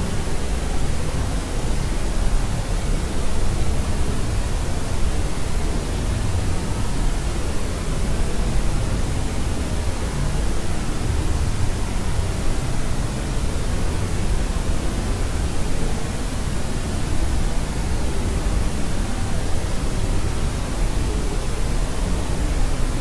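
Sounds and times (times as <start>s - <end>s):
steady white noise: 0.0s - 23.0s.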